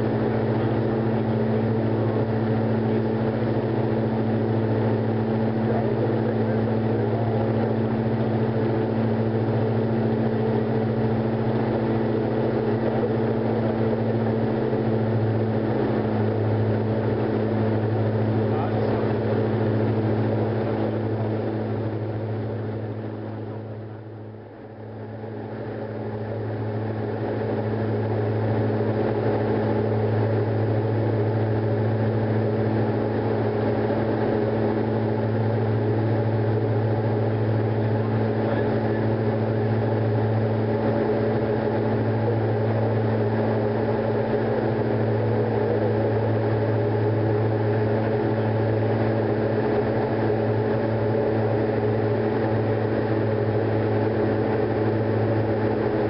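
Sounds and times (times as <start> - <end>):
aircraft engines droning in cockpit: 0.0 - 56.0.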